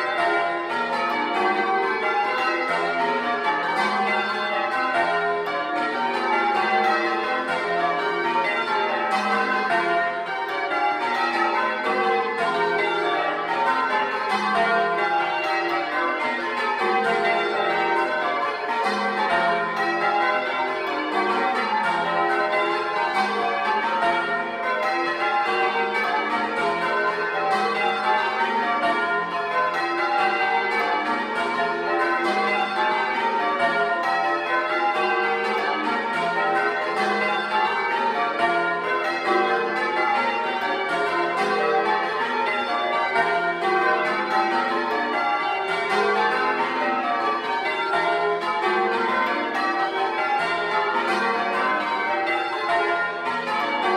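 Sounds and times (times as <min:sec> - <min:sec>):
church bells change ringing: 0:00.0 - 0:53.9.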